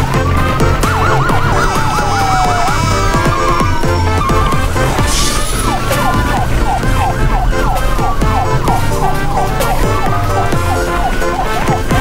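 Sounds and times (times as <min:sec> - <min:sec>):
music with steady beat: 0:00.0 - 0:12.0
siren yelping: 0:00.0 - 0:12.0.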